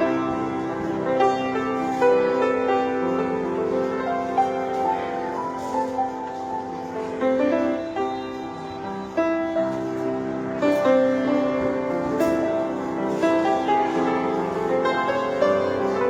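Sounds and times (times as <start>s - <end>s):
slow piano song: 0.0s - 16.0s.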